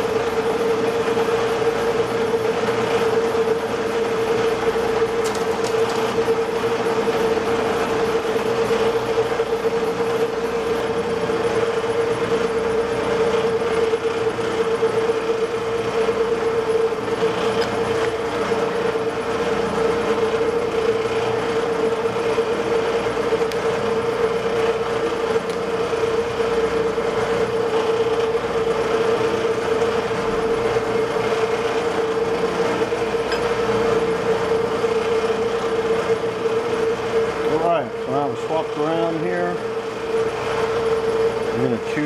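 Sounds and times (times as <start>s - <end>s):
low mechanical hum: 0.0s - 42.0s
metal lathe whining: 0.0s - 42.0s.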